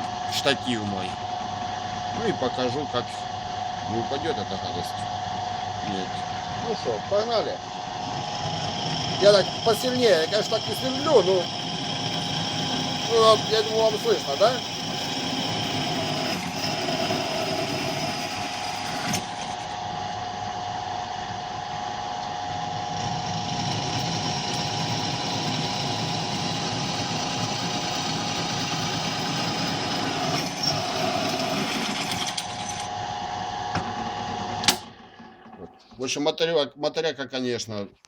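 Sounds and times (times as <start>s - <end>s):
drill press motor humming: 0.0s - 36.0s.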